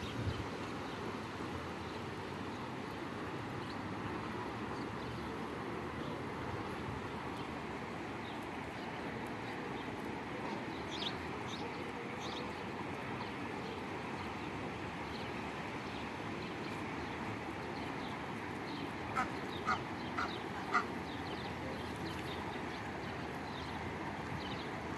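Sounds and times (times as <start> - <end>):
outdoor background noise: 0.0 - 24.9.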